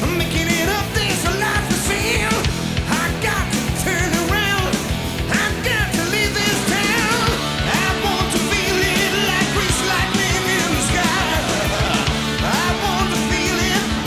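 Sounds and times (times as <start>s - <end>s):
bass and drums beat: 0.0s - 14.0s
hard rock music: 0.0s - 14.0s.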